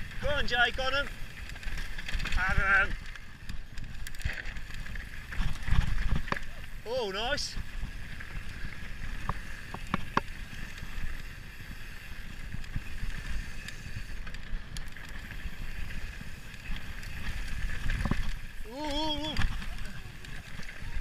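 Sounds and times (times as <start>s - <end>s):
bike rumbling and rattling: 0.0s - 21.0s.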